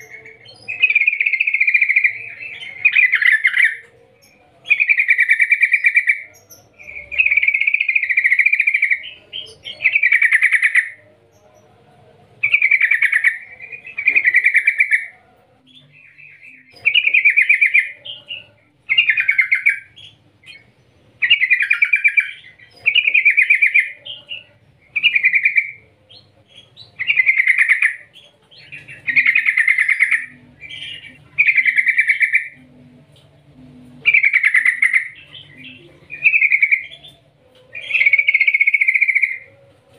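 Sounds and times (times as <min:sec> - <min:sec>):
bird singing bubbling phrases: 0:00.0 - 0:11.1, 0:12.4 - 0:15.1, 0:15.8 - 0:39.5.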